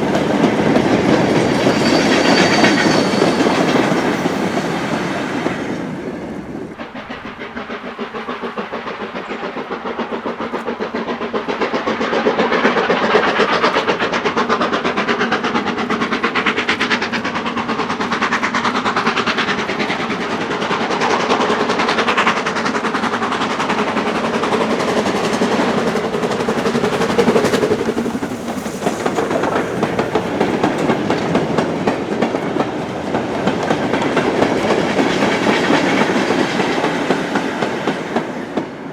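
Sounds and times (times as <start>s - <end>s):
train wagons clattering: 0.0s - 38.8s
steam locomotive passing: 0.0s - 38.9s.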